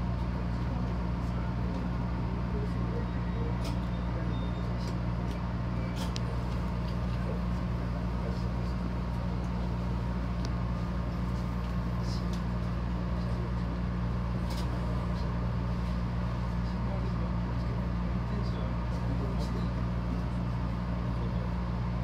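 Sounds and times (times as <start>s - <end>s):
diesel railcar engine idling: 0.0s - 22.0s.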